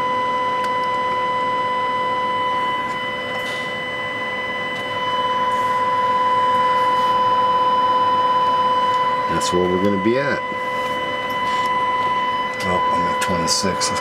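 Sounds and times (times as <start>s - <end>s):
steady test tone: 0.0s - 14.0s.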